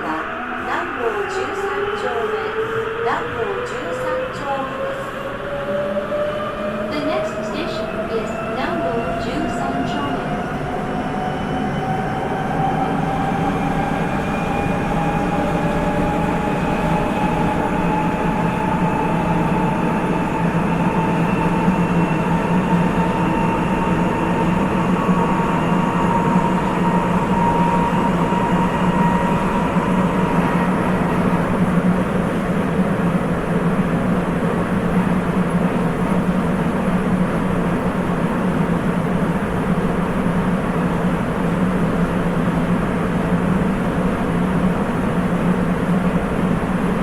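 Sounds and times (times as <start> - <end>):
train rolling noise: 0.0 - 47.0.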